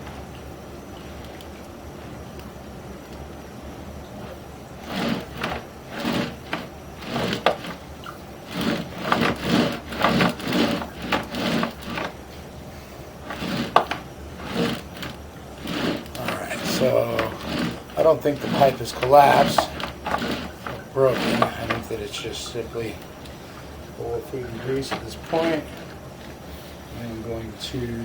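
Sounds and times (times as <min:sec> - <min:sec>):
low steady hum: 0:00.0 - 0:28.0
cable scraping and rubbing: 0:04.2 - 0:28.0.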